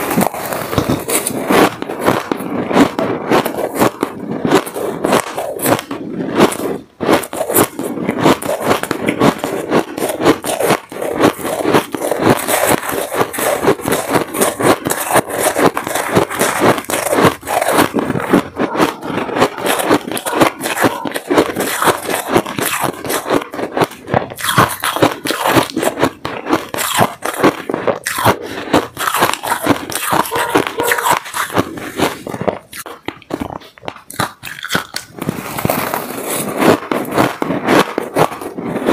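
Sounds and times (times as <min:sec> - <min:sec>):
chewing crunchy ice: 0:00.0 - 0:38.9
spoon scraping shaved ice: 0:00.0 - 0:38.9.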